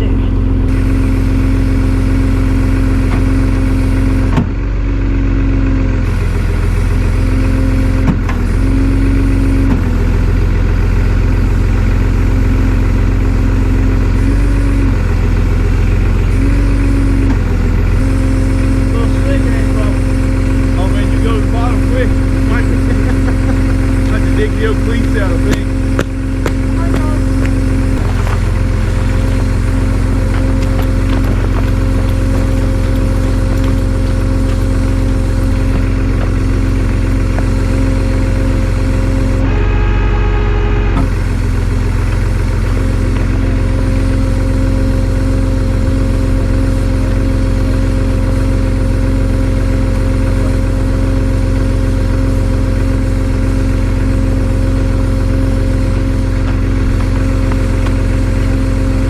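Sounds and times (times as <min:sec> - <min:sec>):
tow truck engine idling: 0:00.0 - 0:59.0.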